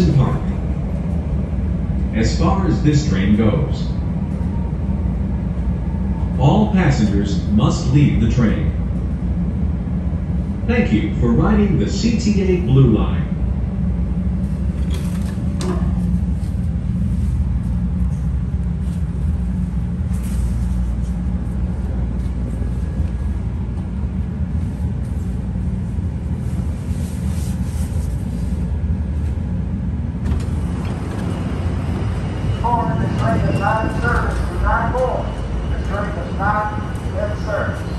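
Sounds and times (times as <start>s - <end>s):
train car rumble and hum: 0.0s - 37.9s.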